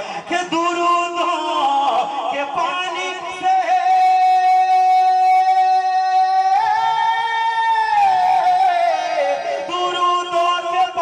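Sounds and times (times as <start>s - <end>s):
man singing in high voice: 0.0s - 11.0s.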